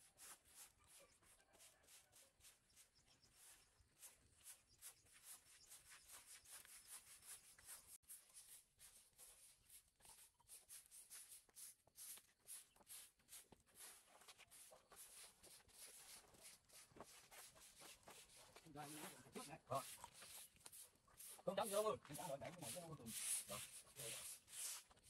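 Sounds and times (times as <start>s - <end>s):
broom sweeping leaves on concrete: 0.0s - 2.7s, 3.4s - 25.0s.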